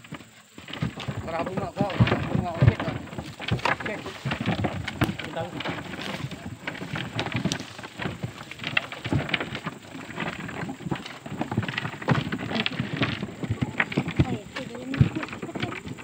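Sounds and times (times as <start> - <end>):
clods tumbling into a grave: 0.0 - 16.0
hoes scraping through soil: 0.0 - 16.0.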